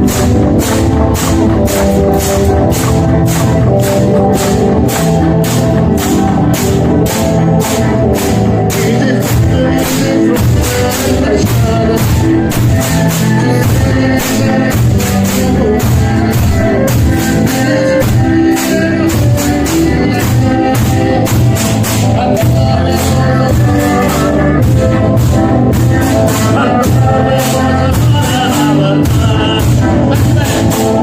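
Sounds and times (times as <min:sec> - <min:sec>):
percussion on barrels and sickles: 0:00.0 - 0:31.0
person singing: 0:00.0 - 0:31.0.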